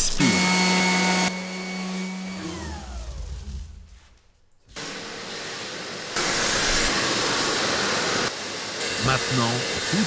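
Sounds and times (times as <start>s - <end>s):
vacuum cleaner running: 0.2s - 4.0s, 4.7s - 10.0s.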